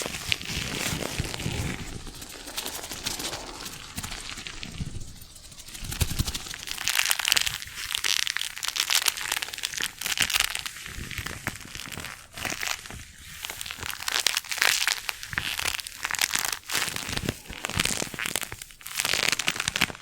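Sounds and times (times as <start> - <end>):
crinkly material being scrunched: 0.0 - 20.0.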